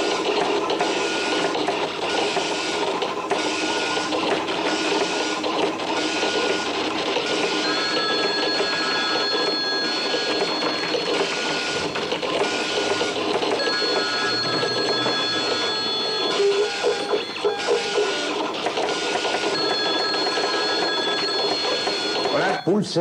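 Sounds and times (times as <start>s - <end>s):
dot-matrix printer rattling: 0.0s - 22.6s
telephone ringing: 0.0s - 23.0s.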